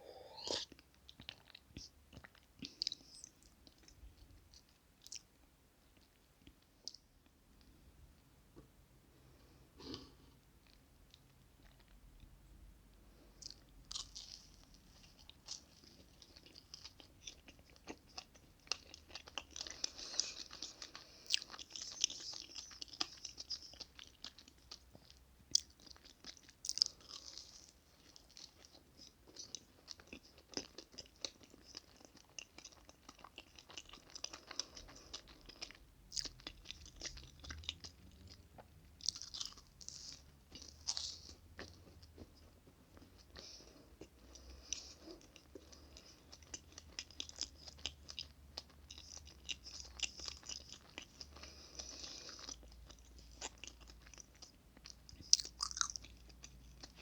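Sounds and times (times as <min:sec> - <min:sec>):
chewing cake mouth sounds: 0:00.2 - 0:05.3, 0:13.4 - 0:57.0.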